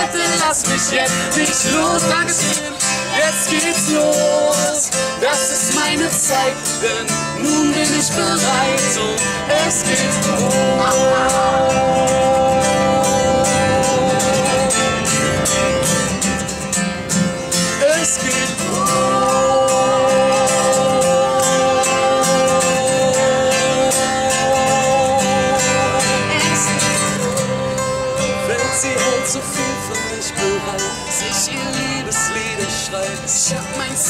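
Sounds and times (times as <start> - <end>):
man and woman singing: 0.0 - 15.4, 17.8 - 34.0
acoustic guitar strumming: 0.0 - 34.0.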